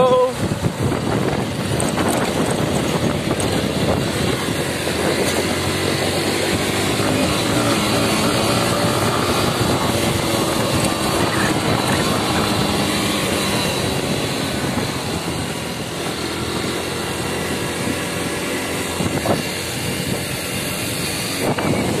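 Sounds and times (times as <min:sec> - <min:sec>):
motorcycle engine running: 0:00.0 - 0:22.0
wind on microphone: 0:00.0 - 0:22.0.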